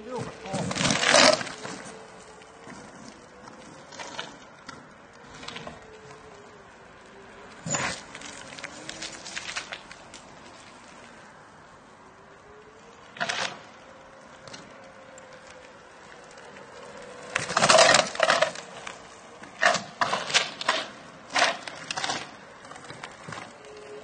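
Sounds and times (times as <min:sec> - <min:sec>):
electric scooter motor whine: 0:00.0 - 0:24.0.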